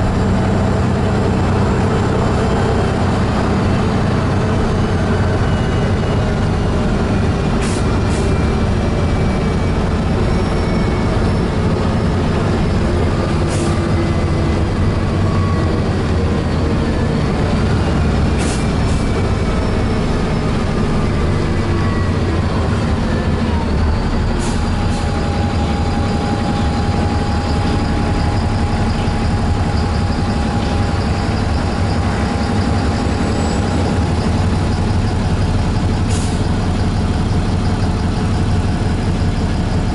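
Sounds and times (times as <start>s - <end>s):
vehicle ride rumble: 0.0s - 39.9s.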